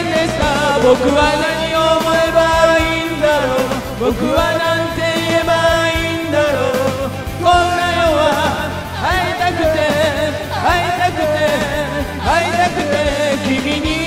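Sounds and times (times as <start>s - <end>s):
person singing into a microphone: 0.0s - 14.0s
rock band backing track: 0.0s - 14.0s.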